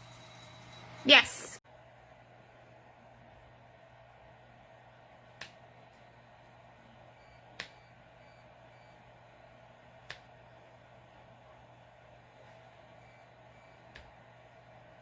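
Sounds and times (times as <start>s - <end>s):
faint room tone hum: 0.0s - 15.0s.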